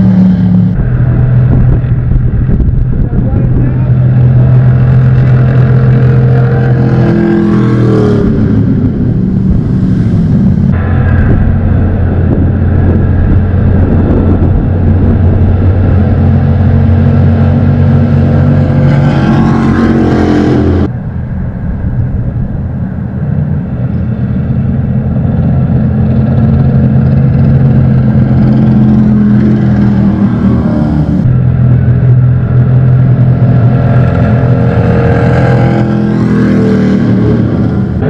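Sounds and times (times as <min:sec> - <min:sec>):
jet boat engines running: 0:00.0 - 0:38.0
rising whine: 0:00.0 - 0:38.0.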